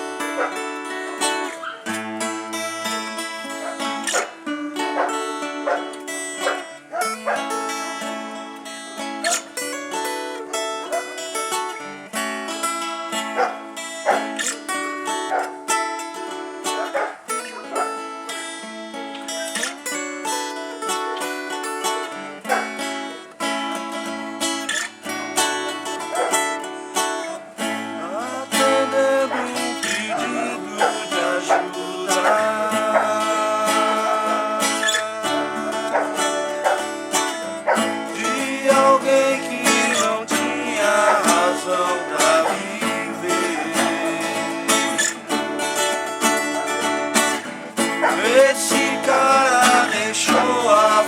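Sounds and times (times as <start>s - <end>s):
acoustic guitar music: 0.0s - 51.0s
plucked strings: 0.0s - 51.0s.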